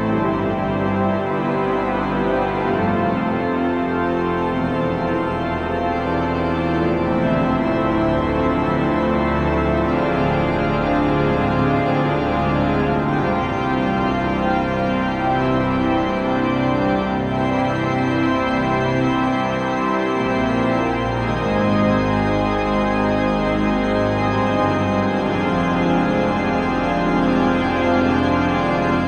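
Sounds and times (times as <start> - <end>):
organ chords: 0.0 - 29.0.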